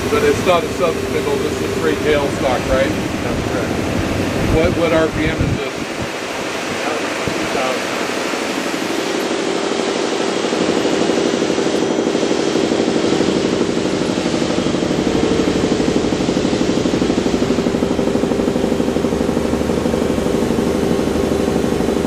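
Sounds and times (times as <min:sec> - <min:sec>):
lathe spindle humming: 0:00.0 - 0:22.0.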